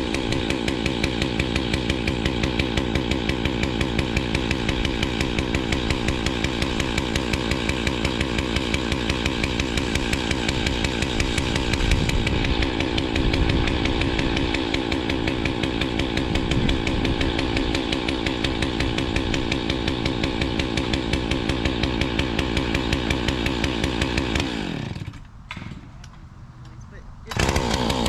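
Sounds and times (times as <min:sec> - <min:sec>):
engine running with rapid pulsing: 0:00.0 - 0:25.1, 0:27.3 - 0:28.0.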